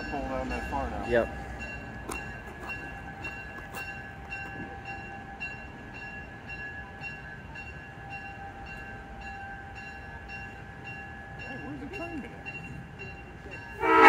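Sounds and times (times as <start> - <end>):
railroad bell ringing: 0.0 - 14.0.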